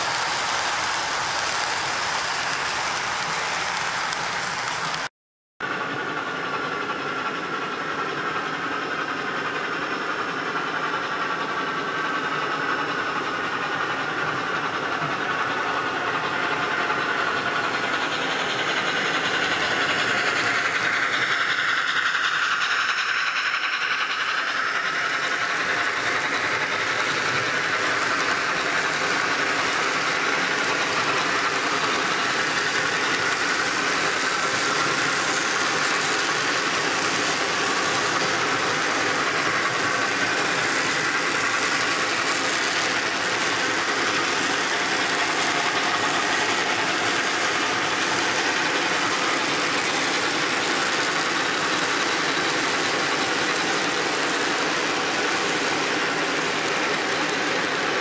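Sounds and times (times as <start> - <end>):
model train rolling on track: 0.0 - 58.0.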